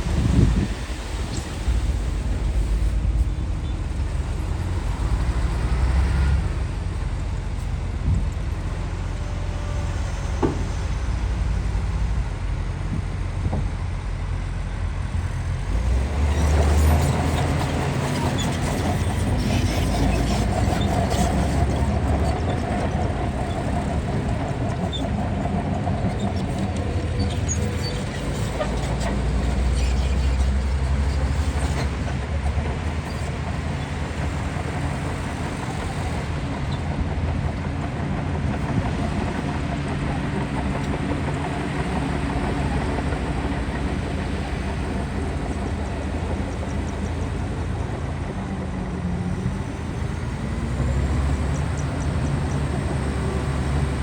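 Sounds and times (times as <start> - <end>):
bulldozer diesel engine rumbling: 0.0 - 54.0.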